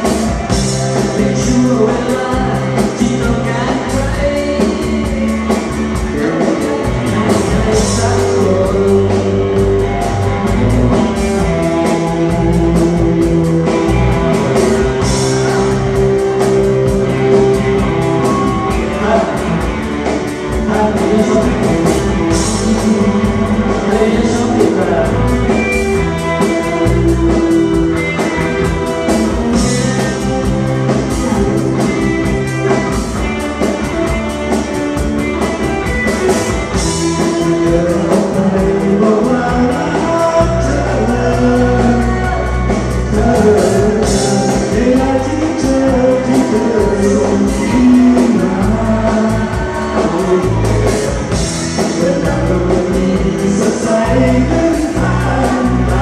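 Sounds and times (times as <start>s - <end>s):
live band playing dance music: 0.0s - 56.0s.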